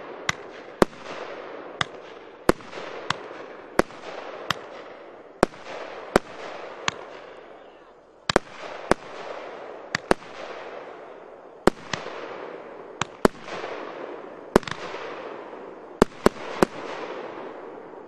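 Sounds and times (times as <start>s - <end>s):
firework reports: 0.0s - 18.0s.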